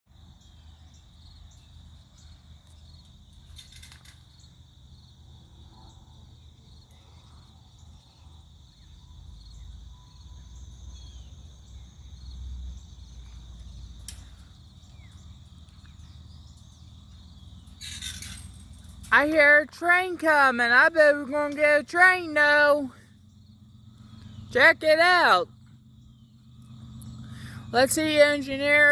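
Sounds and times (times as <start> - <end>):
insects chirping: 0.1 - 28.9.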